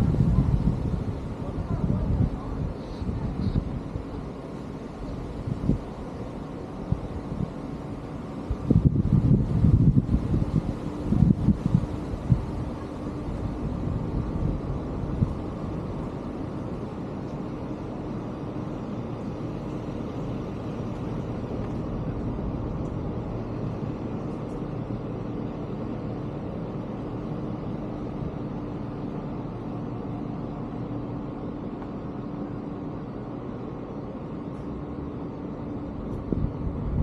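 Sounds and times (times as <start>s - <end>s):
vehicle running hum: 0.0s - 37.0s.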